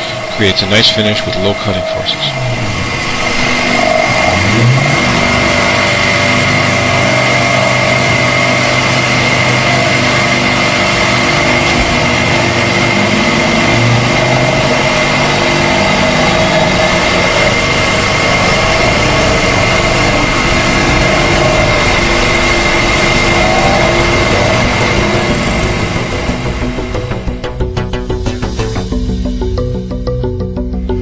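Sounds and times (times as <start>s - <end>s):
milling machine cutting steel: 0.0s - 30.2s.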